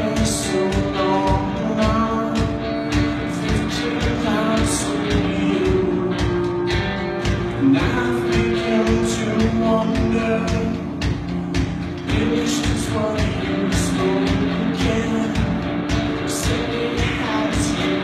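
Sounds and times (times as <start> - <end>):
drum kit beat: 0.0 - 18.0
guitars: 0.0 - 18.0
person singing: 0.0 - 18.0.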